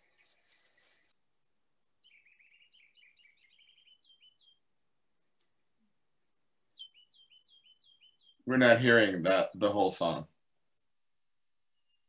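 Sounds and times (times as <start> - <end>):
recorded bird song: 0.0 - 12.0.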